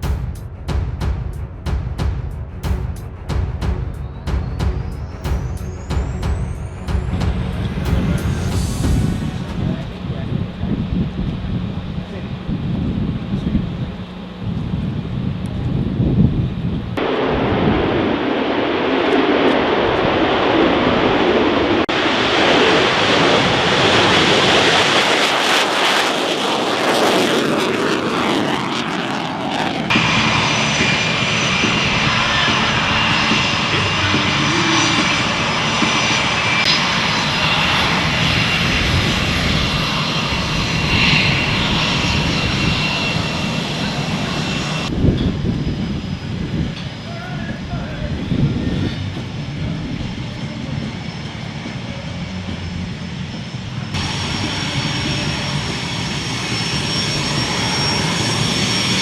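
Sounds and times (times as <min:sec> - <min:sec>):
steady high whine: 0:00.0 - 0:15.7, 0:16.6 - 0:59.0
aircraft engine noise: 0:00.0 - 0:59.0.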